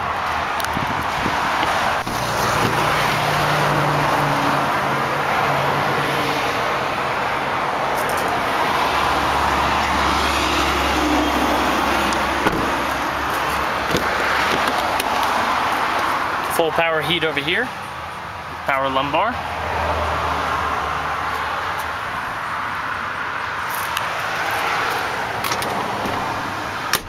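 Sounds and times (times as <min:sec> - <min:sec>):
highway traffic rushing: 0:00.0 - 0:27.0.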